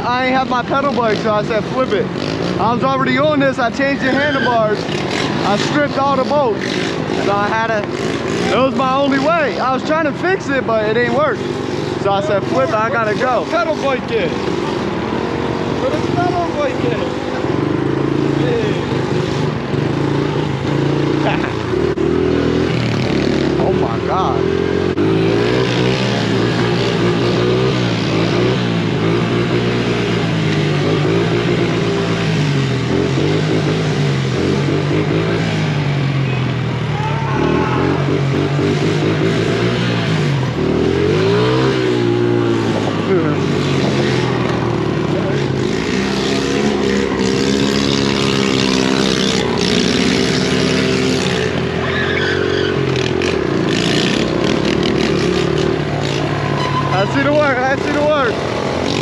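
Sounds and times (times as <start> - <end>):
vehicle engines revving: 0.0 - 59.0
wind and road noise: 0.0 - 59.0.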